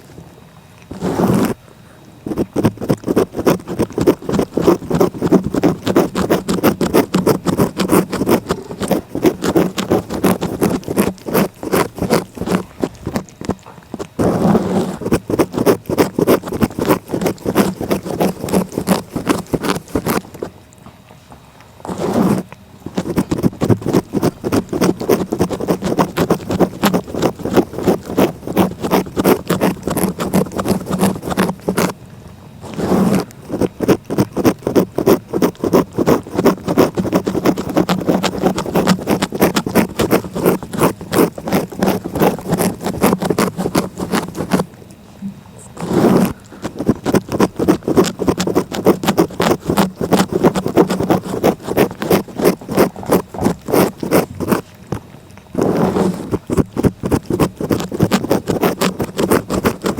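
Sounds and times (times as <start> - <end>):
cat licking: 0.0 - 59.9.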